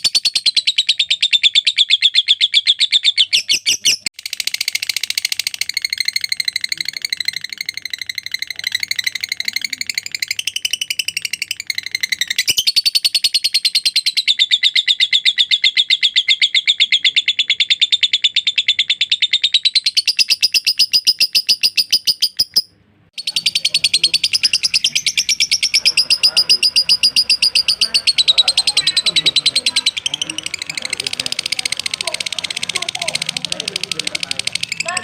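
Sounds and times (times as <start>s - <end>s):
lovebird chattering trill: 0.0s - 35.0s.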